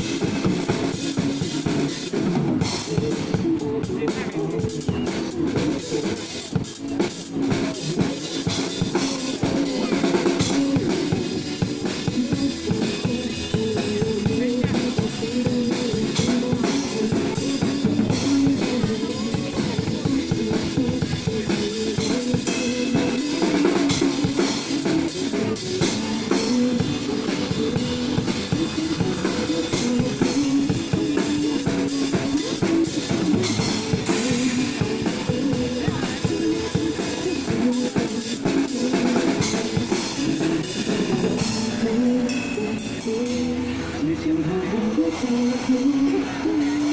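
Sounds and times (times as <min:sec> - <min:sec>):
drum kit beat: 0:00.0 - 0:43.8
pop song playing: 0:00.0 - 0:46.9.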